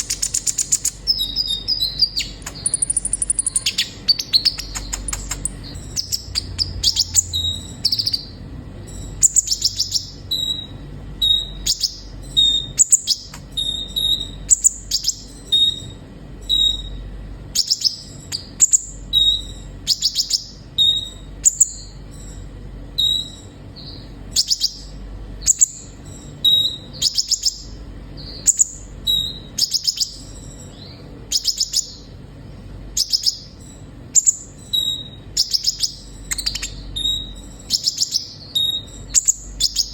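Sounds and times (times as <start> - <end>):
bird chirping and trilling: 0.0 - 32.2, 32.9 - 39.9.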